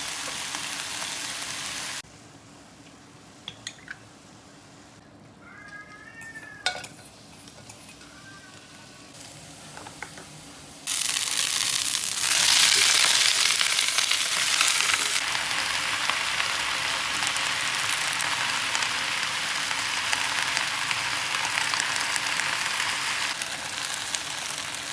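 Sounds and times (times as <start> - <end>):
food sizzling in hot pan: 0.0 - 2.0, 6.9 - 24.9.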